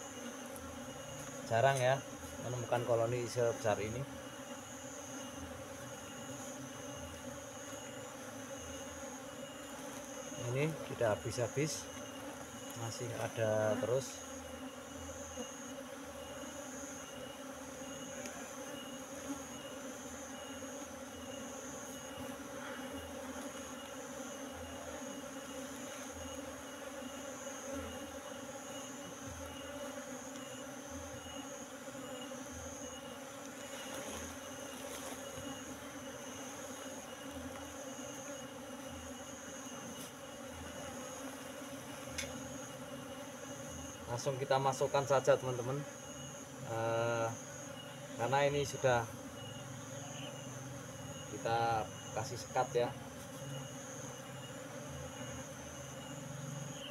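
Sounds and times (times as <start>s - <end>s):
bees buzzing: 0.0s - 56.9s.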